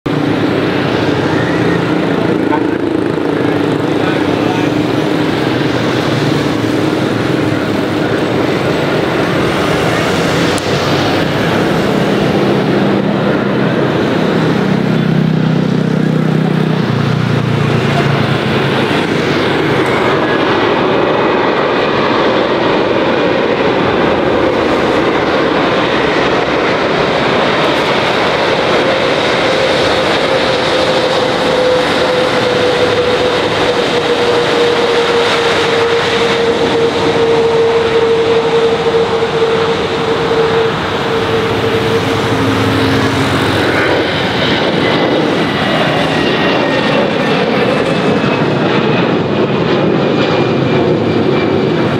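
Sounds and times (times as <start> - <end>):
jet engines of landing airliner: 0.0 - 51.9.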